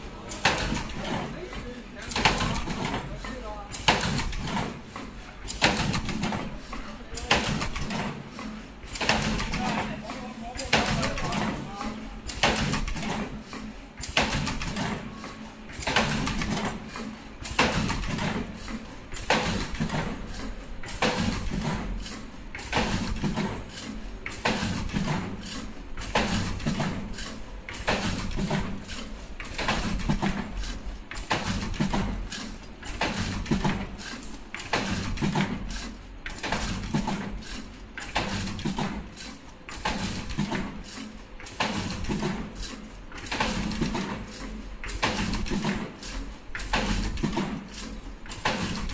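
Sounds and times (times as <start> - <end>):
loud machine clatter: 0.0 - 48.9
machine mechanical clicks and clacks: 0.0 - 48.9.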